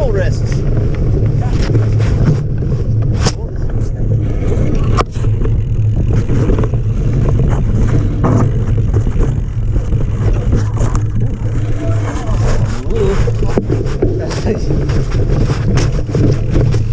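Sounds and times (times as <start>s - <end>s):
bike clicks and rattles: 0.0s - 16.9s
tyres rumbling on dirt: 0.0s - 16.9s
wind buffeting microphone: 0.0s - 16.9s.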